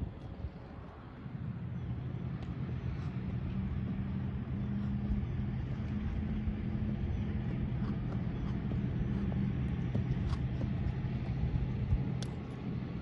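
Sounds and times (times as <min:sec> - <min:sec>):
vehicle engine humming: 0:00.8 - 0:13.0.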